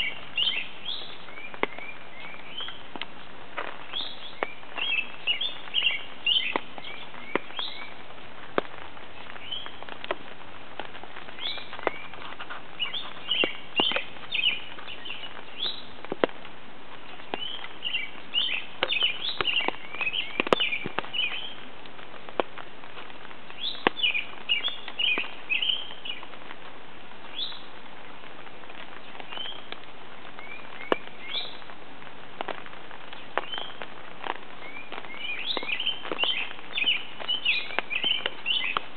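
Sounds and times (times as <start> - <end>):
rain pattering: 0.0 - 38.9
raindrops ticking on an umbrella: 0.0 - 38.9
songbirds singing and chirping: 0.0 - 38.9.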